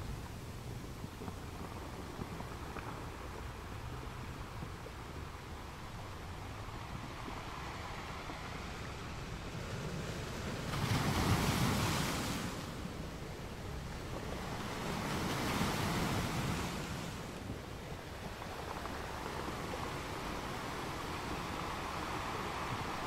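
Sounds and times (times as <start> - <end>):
wind: 0.0 - 23.0
river water rushing: 1.8 - 23.0.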